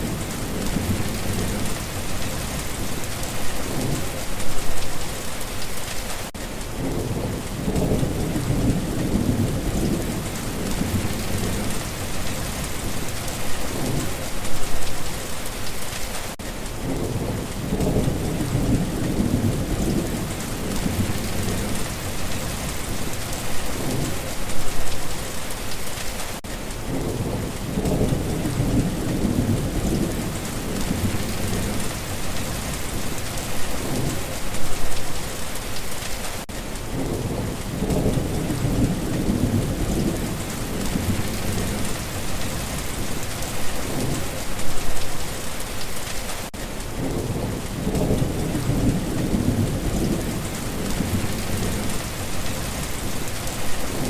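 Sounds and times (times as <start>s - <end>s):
low thunder rumbles: 0.0s - 5.0s, 6.7s - 14.8s, 16.8s - 24.9s, 26.8s - 35.1s, 36.8s - 45.0s, 46.8s - 54.0s
steady rain: 0.0s - 54.0s.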